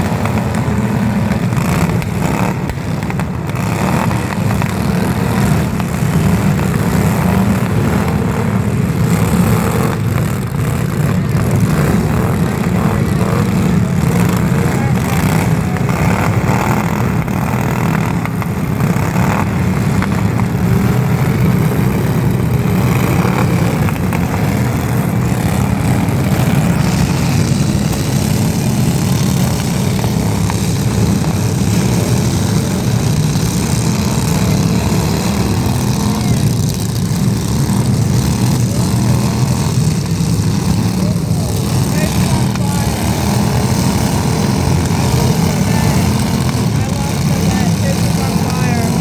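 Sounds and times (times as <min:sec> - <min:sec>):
motor droning loudly: 0:00.0 - 0:49.0.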